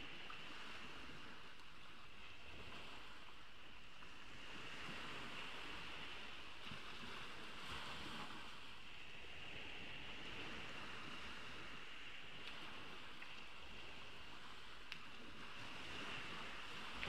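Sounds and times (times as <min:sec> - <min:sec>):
ocean waves washing onto beach: 0:00.0 - 0:17.0.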